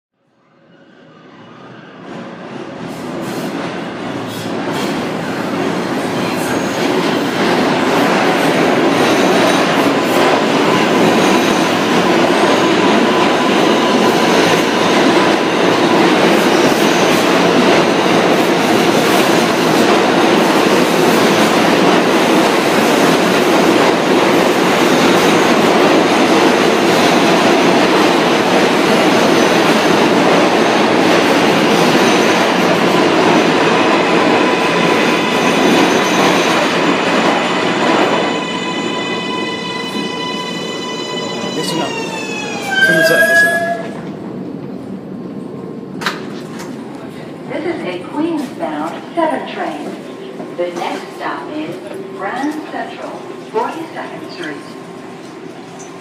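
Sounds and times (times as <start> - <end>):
subway train rumbling into station: 0.2 - 56.0.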